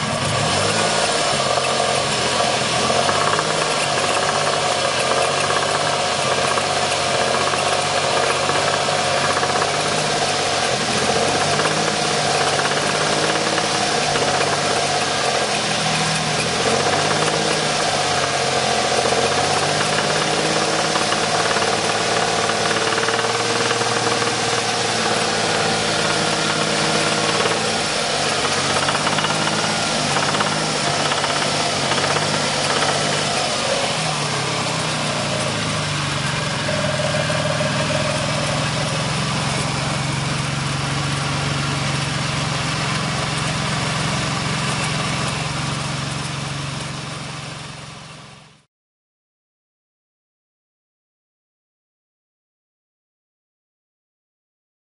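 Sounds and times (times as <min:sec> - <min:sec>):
car engine running: 0:00.0 - 0:48.6
engine knock: 0:00.0 - 0:48.6.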